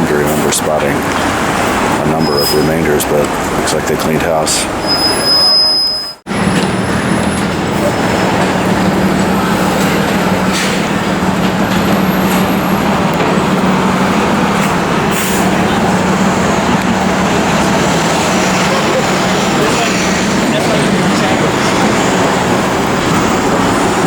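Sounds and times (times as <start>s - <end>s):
large vehicle engine hum: 0.0s - 5.4s, 6.2s - 24.0s
city street traffic: 0.0s - 24.0s.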